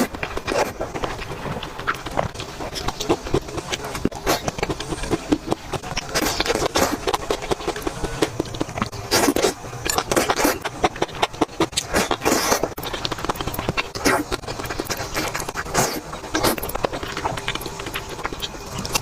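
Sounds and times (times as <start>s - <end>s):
crunching bites and chews: 0.0s - 19.0s
wet mouth noises: 0.0s - 19.0s.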